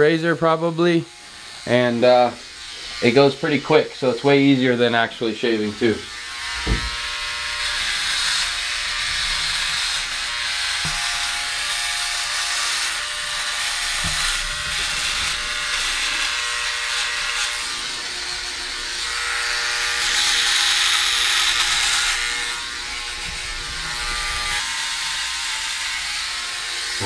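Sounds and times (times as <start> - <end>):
electric shaver cutting stubble: 0.1 - 27.0.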